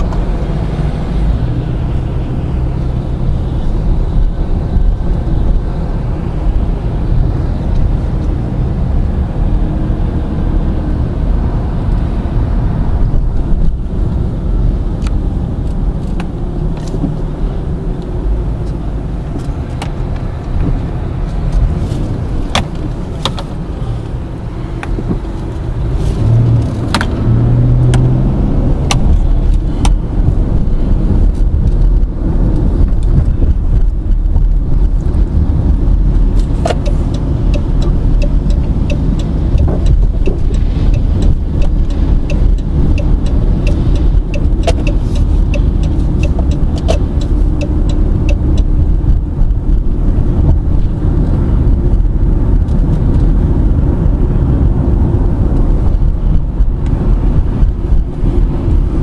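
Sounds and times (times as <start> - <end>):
car interior rumble: 0.0 - 59.0.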